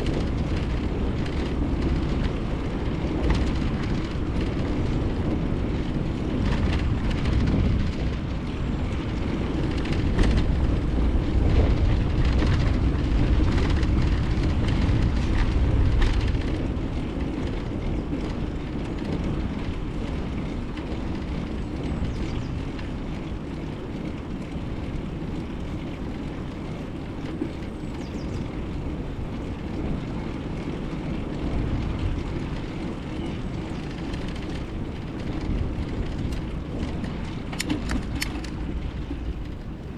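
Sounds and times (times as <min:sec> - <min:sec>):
bicycle tyre road noise: 0:00.0 - 0:39.9
light rattles: 0:00.0 - 0:39.9
wind rumbling on microphone: 0:00.0 - 0:39.9.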